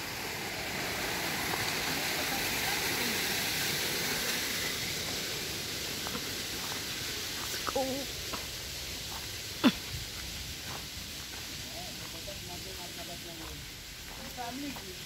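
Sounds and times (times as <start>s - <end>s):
rushing hiss of outdoor noise: 0.0s - 15.0s.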